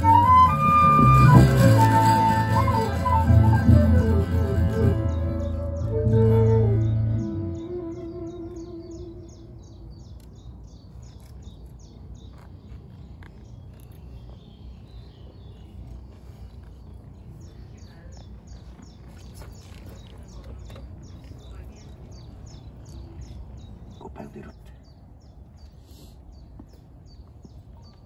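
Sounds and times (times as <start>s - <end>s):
low outdoor rumble: 0.0s - 25.7s
songbird chirping: 0.0s - 28.0s.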